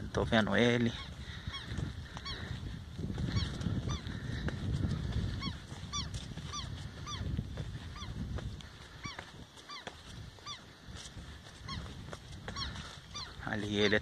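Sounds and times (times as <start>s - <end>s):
bird calling: 0.4s - 14.0s.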